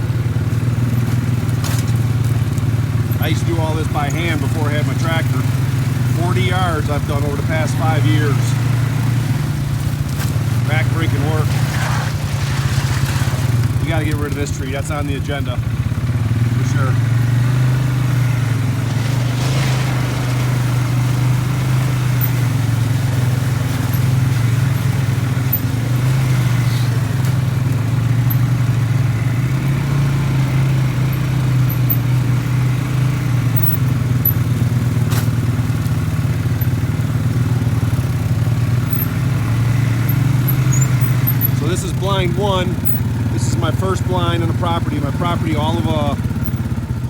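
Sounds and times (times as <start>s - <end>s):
small vehicle engine droning: 0.0s - 47.0s.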